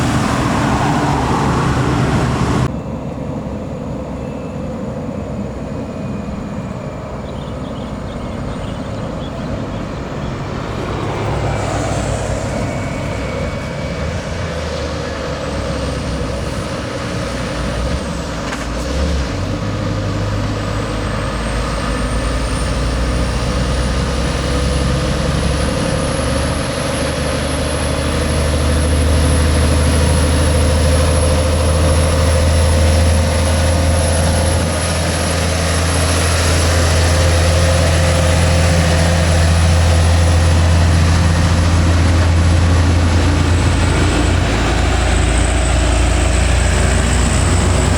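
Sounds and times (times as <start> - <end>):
diesel truck engine labouring: 0.0 - 47.9.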